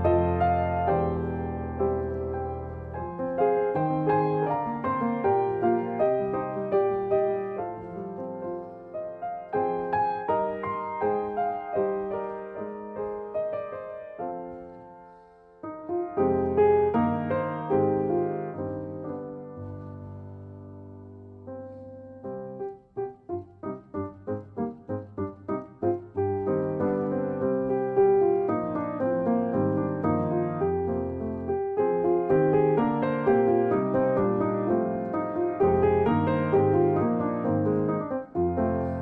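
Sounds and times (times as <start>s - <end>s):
gentle piano melody: 0.0s - 39.0s.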